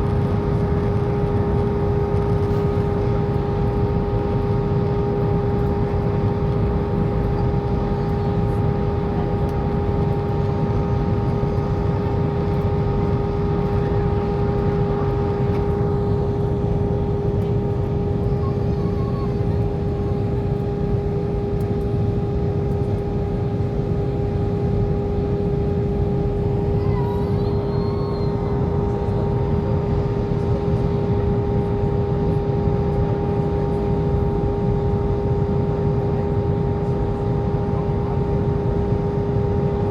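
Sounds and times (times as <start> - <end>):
airplane cabin rumble: 0.0 - 39.9
steady hum: 0.0 - 39.9.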